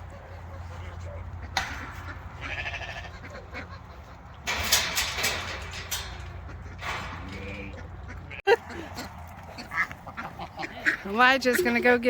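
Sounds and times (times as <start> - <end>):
barnyard fowl calling: 0.0 - 12.0.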